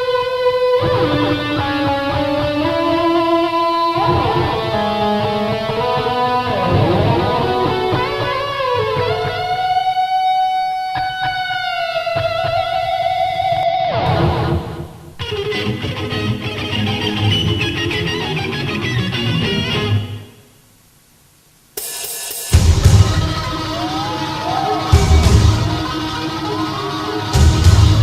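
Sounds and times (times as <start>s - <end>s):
rock music with electric guitar: 0.0s - 20.3s, 21.9s - 28.0s.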